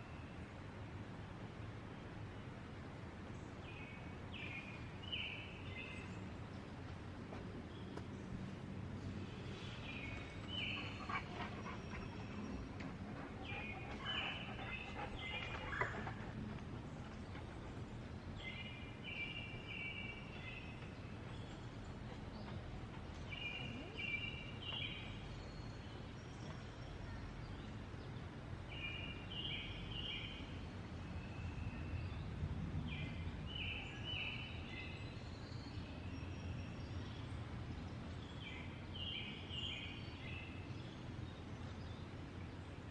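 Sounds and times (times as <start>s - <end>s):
low outdoor background noise: 0.0s - 42.9s
songbird singing: 3.2s - 42.9s.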